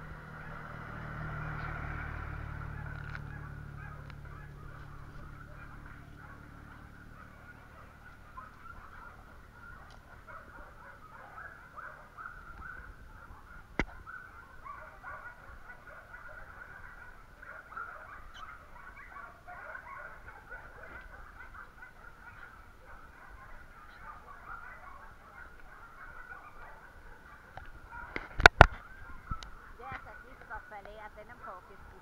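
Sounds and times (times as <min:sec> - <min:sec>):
distant bird calls: 0:00.0 - 0:32.0.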